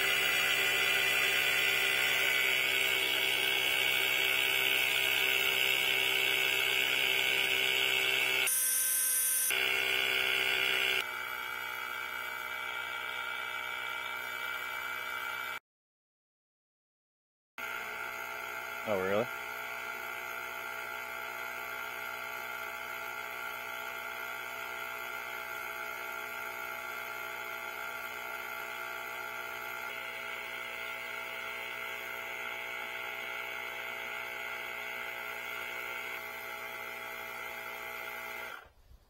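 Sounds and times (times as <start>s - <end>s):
tire inflator compressor whining: 0.0s - 15.6s, 17.6s - 38.8s.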